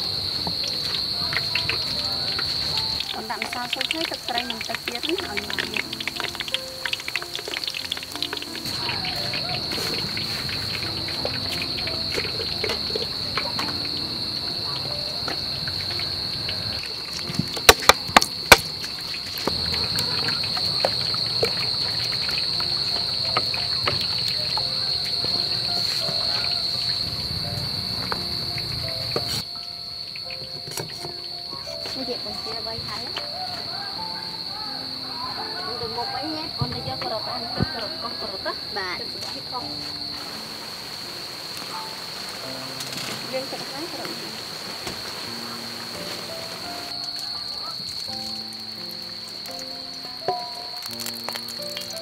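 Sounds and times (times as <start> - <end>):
crickets chirring: 0.0 - 52.0.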